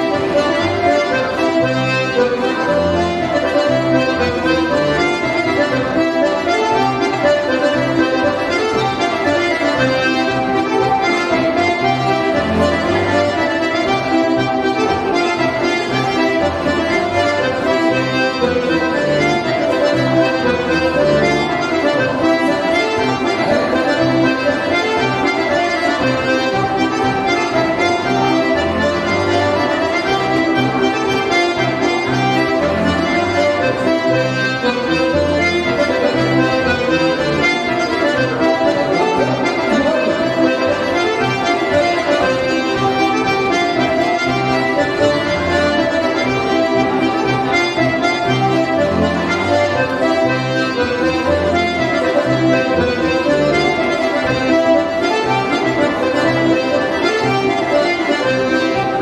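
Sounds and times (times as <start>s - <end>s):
accordion polka music: 0.0s - 59.0s.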